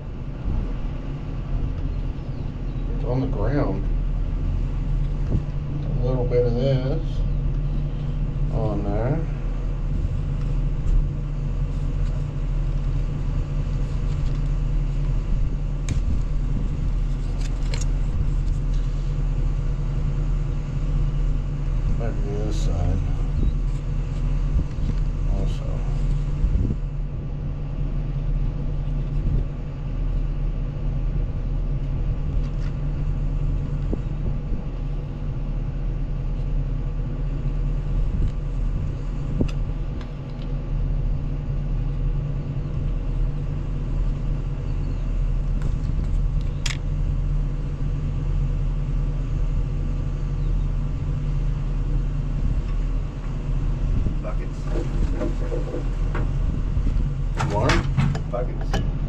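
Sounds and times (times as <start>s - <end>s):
heavy diesel engine rumbling: 0.0s - 59.0s.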